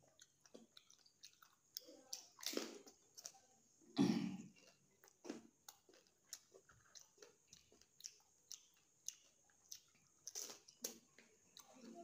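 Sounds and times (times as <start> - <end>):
crunchy chewing: 0.0 - 3.6, 4.4 - 12.0.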